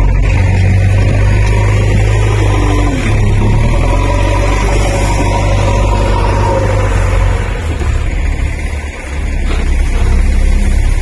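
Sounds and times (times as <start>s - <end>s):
diesel engine under load: 0.0s - 11.0s
loader bucket working sand: 0.0s - 11.0s.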